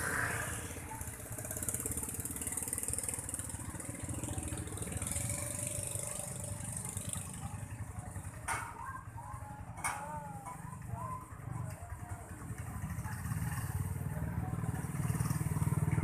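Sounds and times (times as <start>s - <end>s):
motor scooter engine idling: 0.0s - 16.0s.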